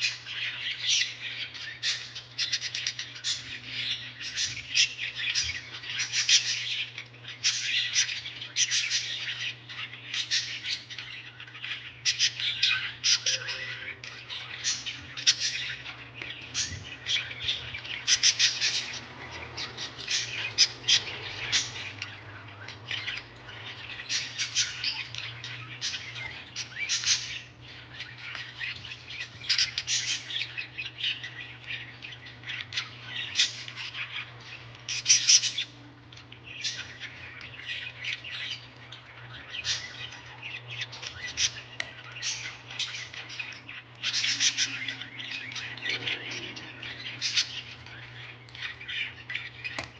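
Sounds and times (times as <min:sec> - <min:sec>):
small birds chirping and squawking: 0:00.0 - 0:49.9.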